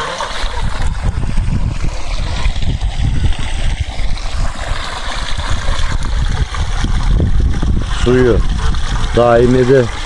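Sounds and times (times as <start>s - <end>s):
water pouring into pond: 0.0s - 10.0s.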